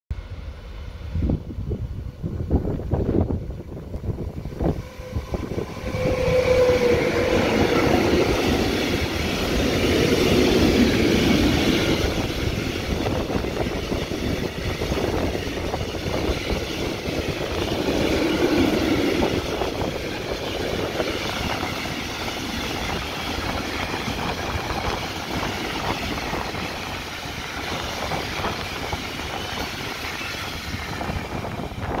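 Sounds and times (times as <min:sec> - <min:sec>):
freight train passing: 0:00.1 - 0:32.0.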